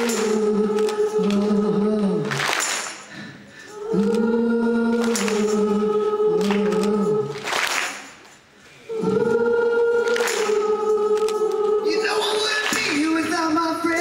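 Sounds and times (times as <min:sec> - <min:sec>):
live band with choir-like voices: 0:00.0 - 0:14.0.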